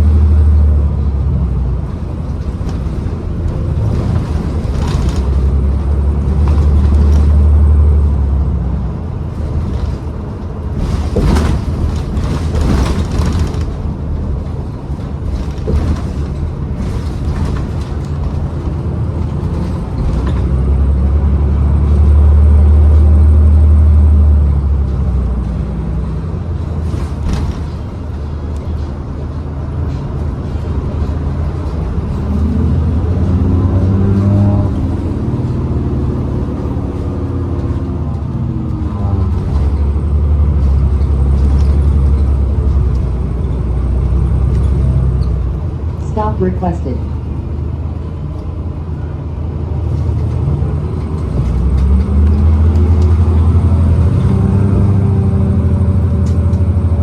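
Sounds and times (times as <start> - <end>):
bus drivetrain drone: 0.0 - 57.0
rattles and knocks: 1.6 - 8.0, 9.0 - 22.6, 26.5 - 46.0, 49.8 - 57.0.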